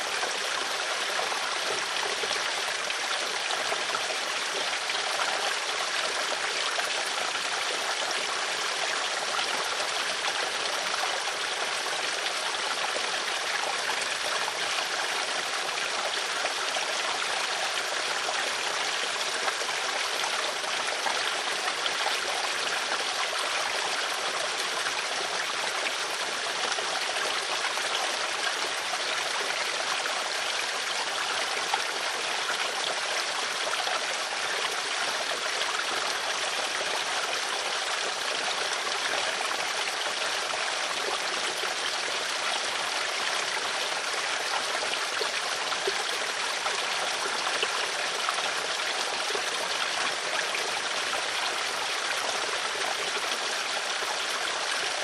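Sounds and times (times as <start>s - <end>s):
running water in a stream: 0.0s - 55.0s.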